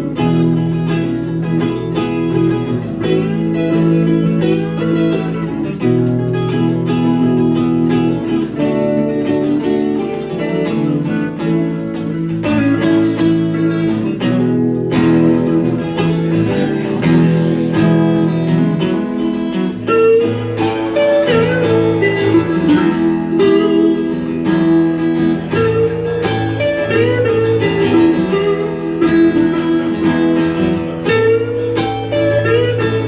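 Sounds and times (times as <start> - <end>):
lead guitar bent notes: 0.0 - 33.0
strummed guitar chords: 0.0 - 33.0.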